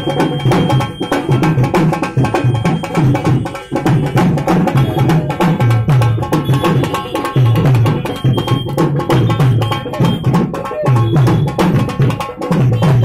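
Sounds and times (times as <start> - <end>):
fast hand drum rhythm: 0.0 - 13.0.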